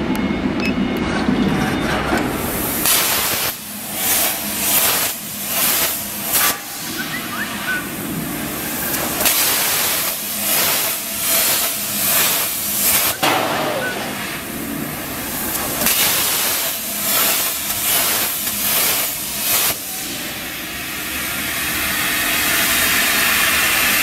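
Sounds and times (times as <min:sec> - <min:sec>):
plasma torch hissing: 0:02.3 - 0:24.0.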